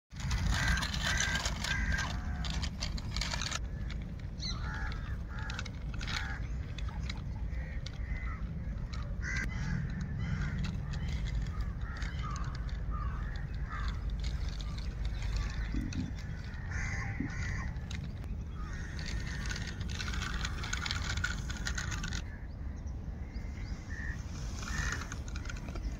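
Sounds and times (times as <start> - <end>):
birds calling: 0.1 - 25.9.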